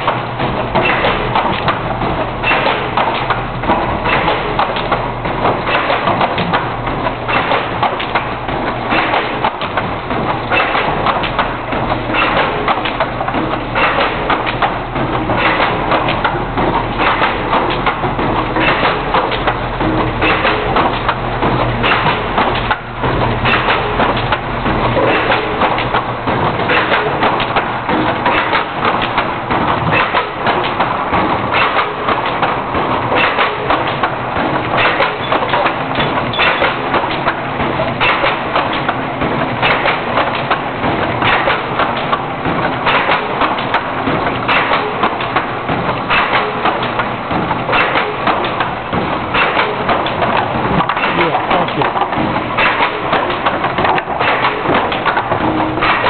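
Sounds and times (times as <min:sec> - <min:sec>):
taping machine clattering: 0:00.0 - 0:56.0.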